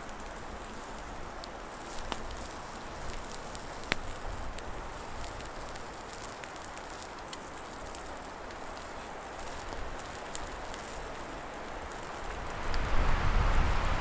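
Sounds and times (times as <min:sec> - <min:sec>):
campfire crackles: 0:00.0 - 0:14.0
steady background hiss: 0:00.0 - 0:14.0.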